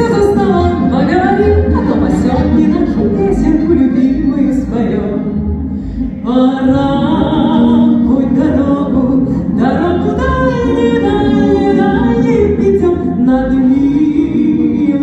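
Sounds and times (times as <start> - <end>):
woman singing over loudspeakers: 0.0 - 5.4, 6.2 - 15.0.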